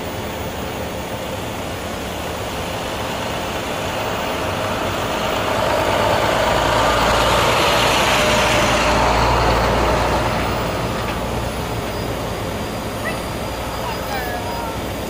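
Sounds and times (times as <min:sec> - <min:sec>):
truck driving past: 0:00.0 - 0:15.0.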